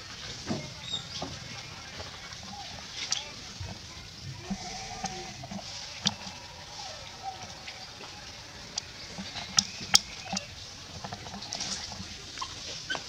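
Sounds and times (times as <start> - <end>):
steady high hiss: 0.0 - 11.1.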